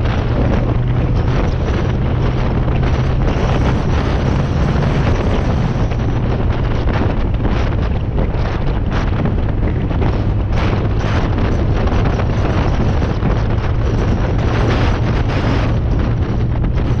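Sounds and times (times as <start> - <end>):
motorcycle engine humming: 0.0 - 17.0
wind rushing over microphone: 0.0 - 17.0.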